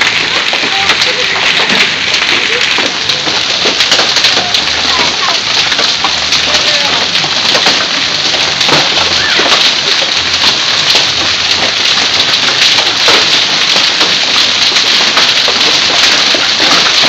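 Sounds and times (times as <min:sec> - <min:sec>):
hail and heavy rain: 0:00.0 - 0:17.0.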